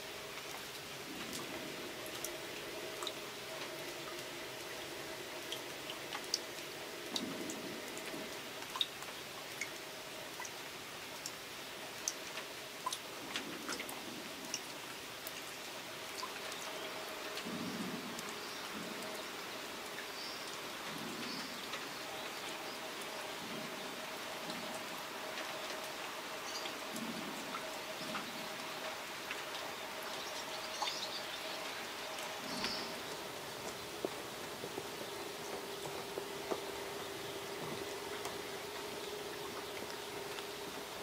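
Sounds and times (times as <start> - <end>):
steady rain: 0.0 - 41.0.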